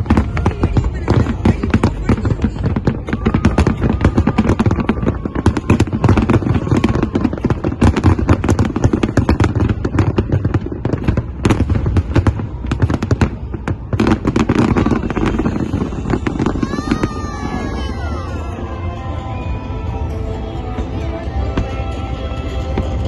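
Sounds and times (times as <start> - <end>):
fireworks crackling bangs: 0.0 - 19.0.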